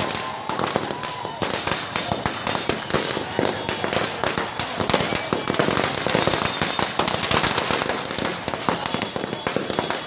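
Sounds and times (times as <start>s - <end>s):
firecrackers cracking: 0.0s - 10.0s.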